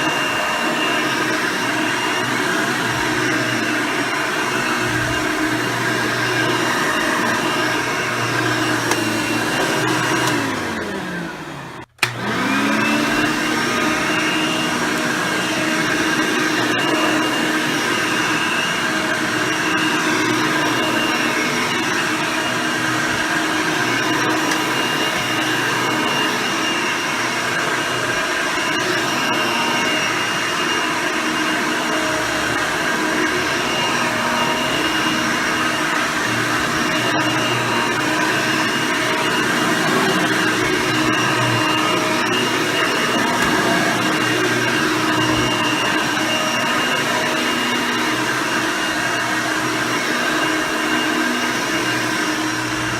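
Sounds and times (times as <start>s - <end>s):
upright vacuum cleaner running: 0.0s - 52.9s.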